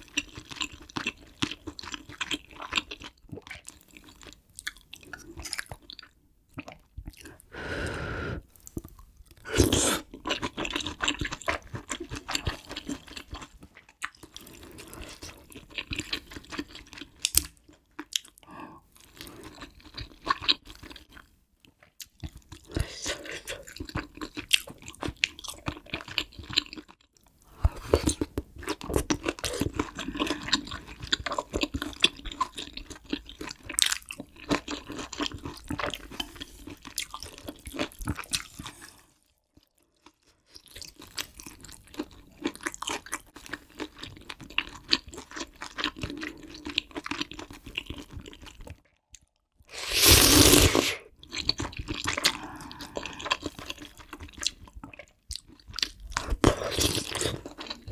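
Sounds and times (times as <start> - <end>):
wet chewing with crunchy bites: 0.0 - 7.4, 8.5 - 57.9.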